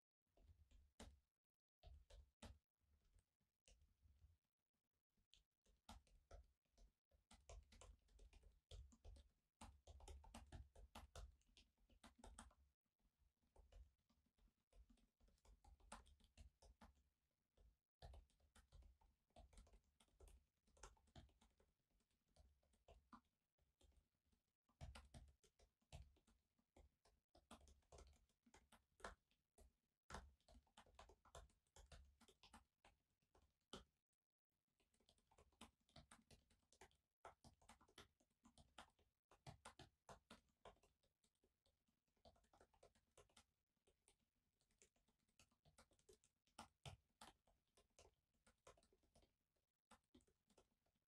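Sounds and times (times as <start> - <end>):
typing on a laptop keyboard: 0.7 - 2.6, 5.4 - 12.8, 13.4 - 51.0.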